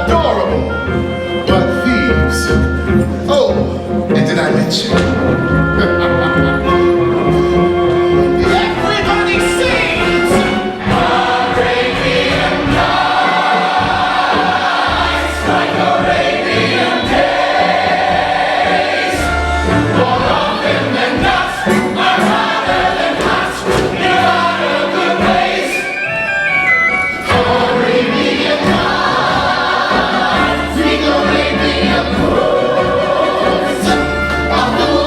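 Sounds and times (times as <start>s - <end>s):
choir singing: 0.0s - 35.0s
instrumental backing music: 0.0s - 35.0s.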